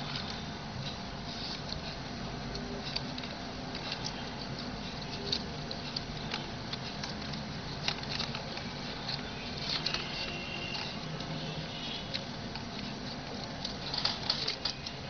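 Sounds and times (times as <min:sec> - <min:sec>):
small clicks and scratches: 0:00.0 - 0:15.0
palm leaves rustling and crackling: 0:02.6 - 0:15.0.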